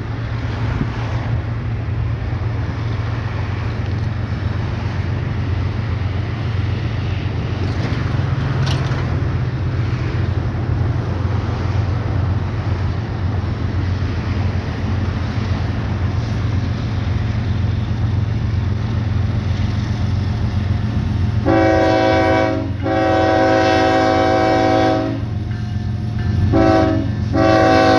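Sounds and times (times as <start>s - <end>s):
diesel locomotive engines rumbling: 0.0s - 27.9s
train wheels on rails: 0.0s - 27.9s.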